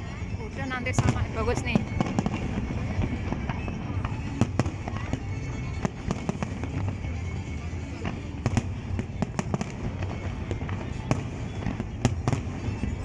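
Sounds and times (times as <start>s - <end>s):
distant fireworks rumble: 0.0s - 13.0s
fireworks bangs: 0.6s - 13.0s.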